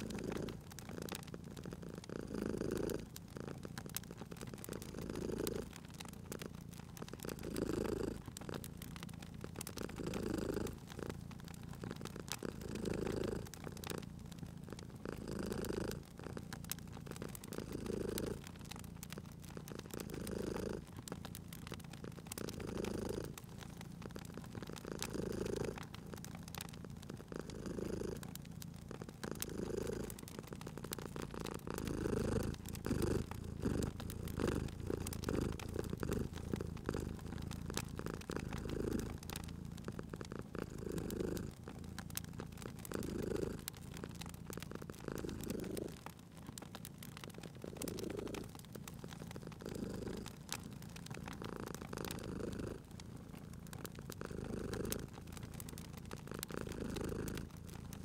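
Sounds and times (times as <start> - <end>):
cat purring: 0.0 - 58.0
wood fire crackling: 0.0 - 58.0.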